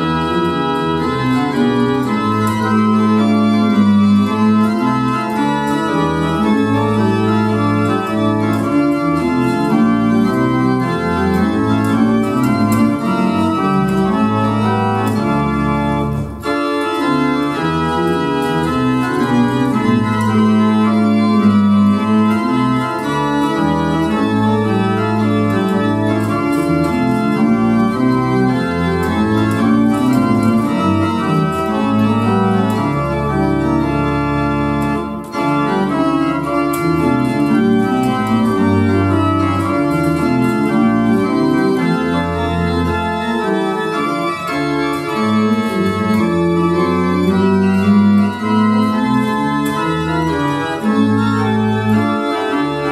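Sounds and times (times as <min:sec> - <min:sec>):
church pipe organ playing chords: 0:00.0 - 0:52.9.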